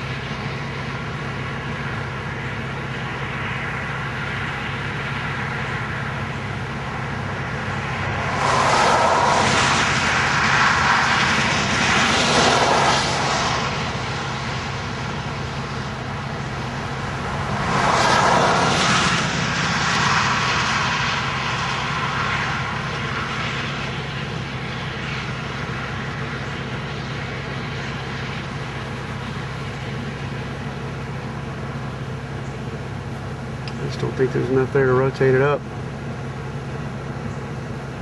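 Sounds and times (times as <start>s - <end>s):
wind rushing over microphone: 0.0s - 30.6s
steady low hum: 0.0s - 38.0s.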